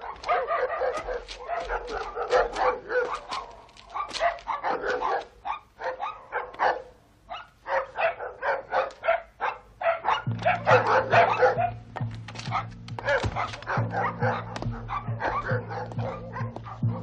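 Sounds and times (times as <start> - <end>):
dogs barking and yapping: 0.0 - 17.0.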